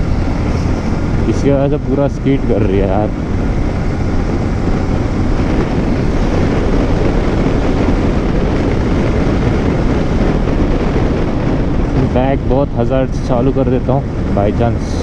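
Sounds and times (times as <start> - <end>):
motorcycle riding on rough road: 0.0 - 15.0.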